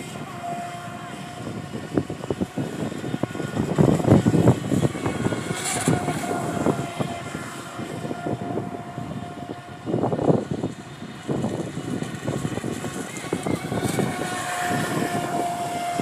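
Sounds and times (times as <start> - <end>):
electric motor whine: 0.0 - 16.0
water rushing: 0.0 - 16.0.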